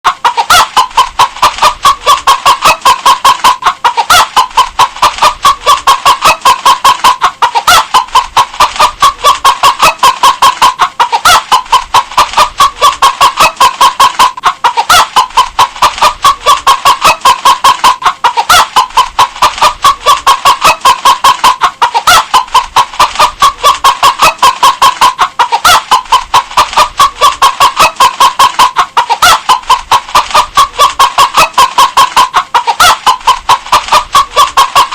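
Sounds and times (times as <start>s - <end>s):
hen clucking: 0.1s - 34.9s.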